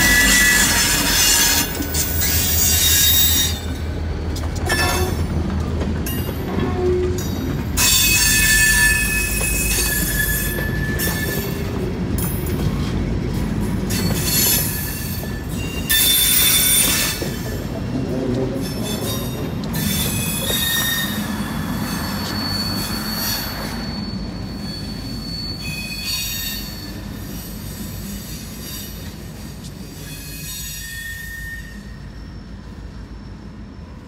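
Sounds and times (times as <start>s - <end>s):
steel wheels squealing: 0.0s - 5.4s, 6.0s - 12.9s, 13.6s - 34.0s
train rumble: 0.0s - 34.0s.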